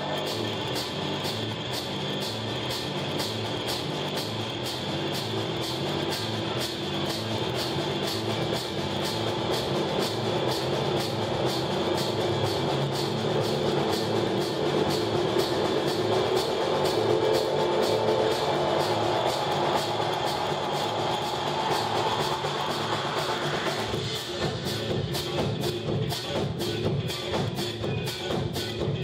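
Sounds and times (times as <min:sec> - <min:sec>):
congas drumming: 0:00.0 - 0:29.0.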